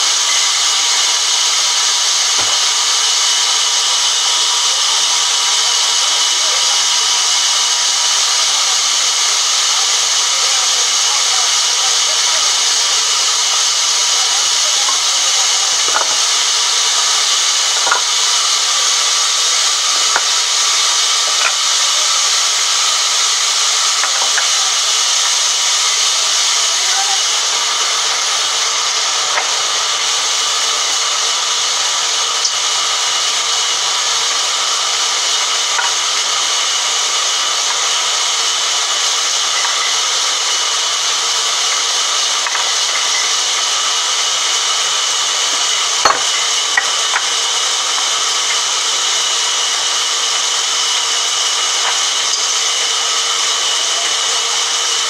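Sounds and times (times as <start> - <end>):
band saw cutting through log: 0.0 - 55.0.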